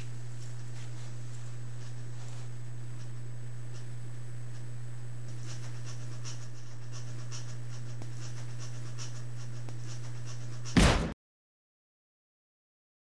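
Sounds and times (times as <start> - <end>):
low electrical hum: 0.0 - 11.2.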